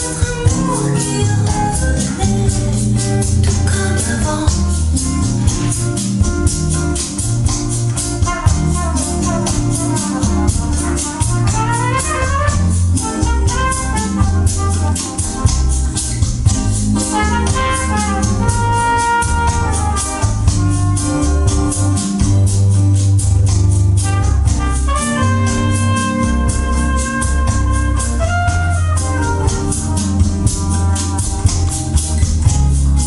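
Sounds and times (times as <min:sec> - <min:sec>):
heavy bass notes: 0:00.0 - 0:33.0
keyboard melody: 0:00.0 - 0:33.0
music through speakers: 0:00.0 - 0:33.0.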